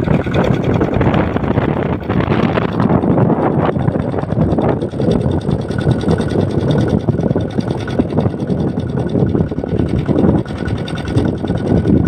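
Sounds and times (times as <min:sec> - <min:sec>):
tractor diesel engine running hard: 0:00.0 - 0:12.0.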